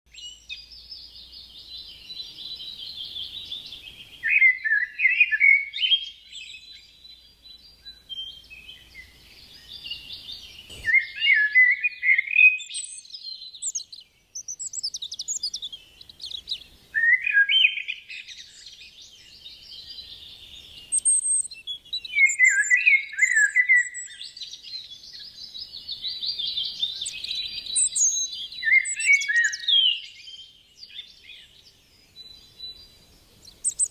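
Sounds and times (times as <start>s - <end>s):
songbirds twittering: 0.1s - 33.9s.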